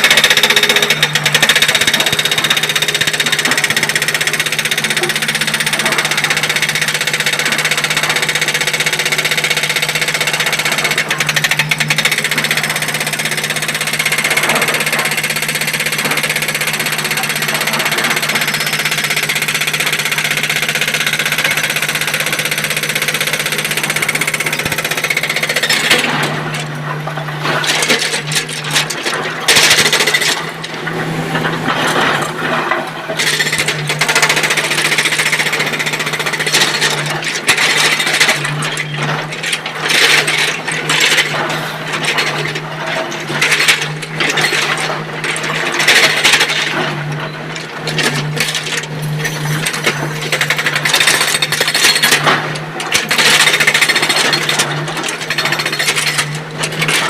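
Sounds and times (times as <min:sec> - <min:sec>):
rapid mechanical clatter: 0:00.0 - 0:30.9, 0:31.5 - 0:57.0
excavator diesel engine: 0:00.0 - 0:57.0.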